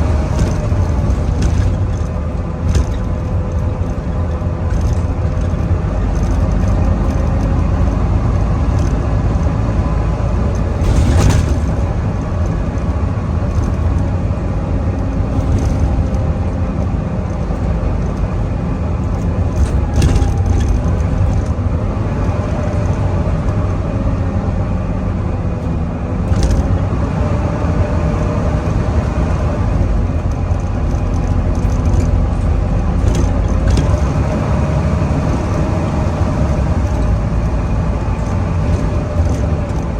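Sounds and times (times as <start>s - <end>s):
bus body knocks and rattles: 0.0s - 39.9s
bus engine rumbling with whine: 0.0s - 39.9s.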